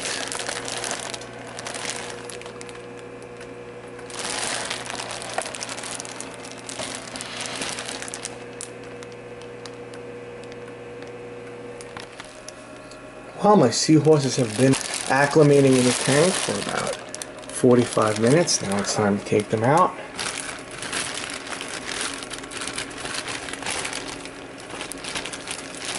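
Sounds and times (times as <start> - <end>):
crinkling and rustling: 0.0 - 10.7, 11.8 - 12.9, 13.9 - 25.9
steady low hum: 0.0 - 25.9.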